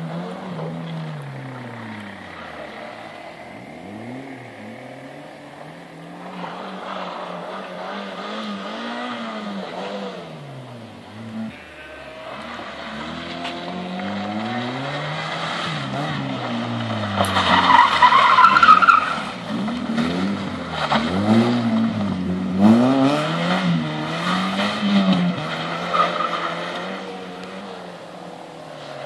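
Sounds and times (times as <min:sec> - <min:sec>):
car engine revving hard: 0:00.0 - 0:29.0
tyres squealing and skidding: 0:00.0 - 0:29.0.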